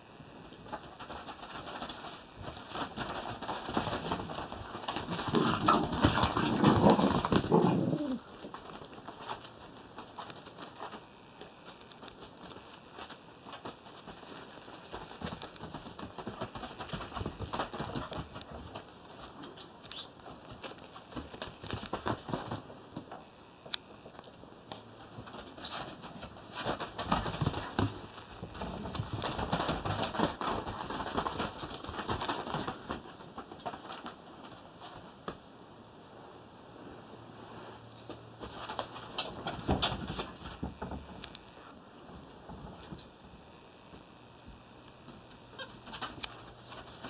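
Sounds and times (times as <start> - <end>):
puppy paws scrabbling on mat: 0.2 - 35.5, 36.8 - 47.0.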